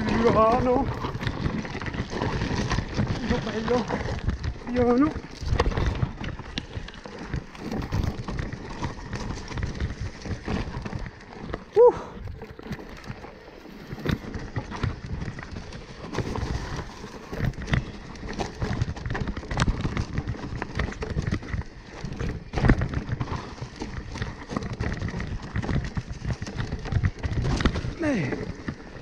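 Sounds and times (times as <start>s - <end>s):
bike knocking and rattling: 0.0s - 29.0s
bike tyres rolling over dirt: 0.0s - 29.0s.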